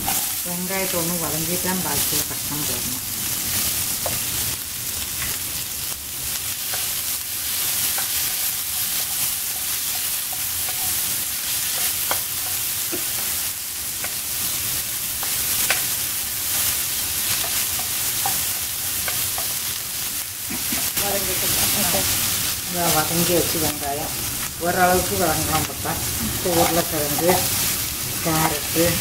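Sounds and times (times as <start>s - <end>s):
onions sizzling in oil: 0.0s - 29.0s.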